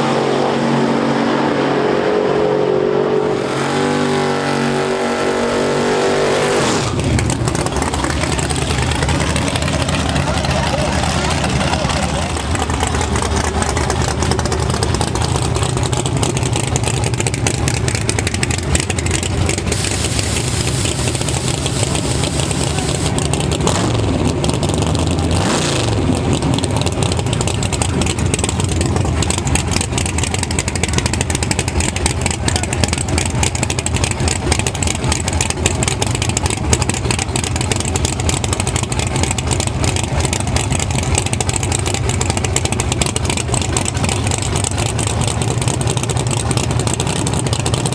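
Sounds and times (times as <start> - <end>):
race engine idling: 6.8 - 47.9.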